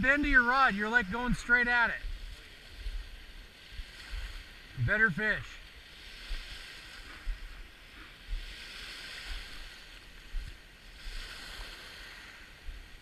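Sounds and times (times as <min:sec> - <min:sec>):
wind buffeting microphone: 0:00.0 - 0:04.9, 0:06.0 - 0:13.0
waves washing on gravel shore: 0:00.0 - 0:13.0.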